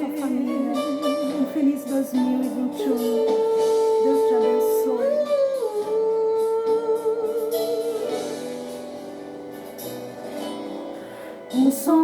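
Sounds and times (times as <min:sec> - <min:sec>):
held instrumental note: 0:00.0 - 0:11.2.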